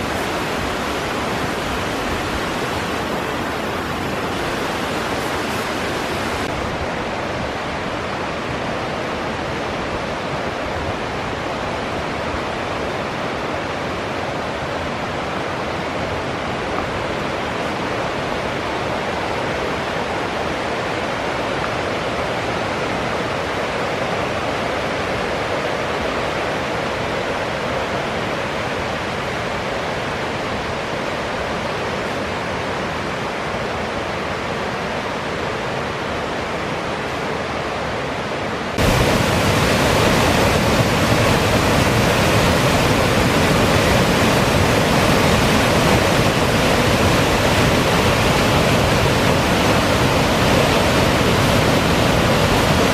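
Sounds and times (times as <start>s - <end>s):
mountain stream roaring: 0.0s - 52.9s.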